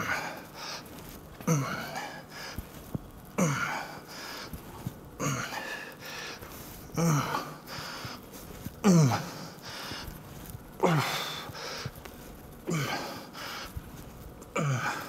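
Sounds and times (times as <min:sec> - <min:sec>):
man breathing: 0:00.0 - 0:15.0.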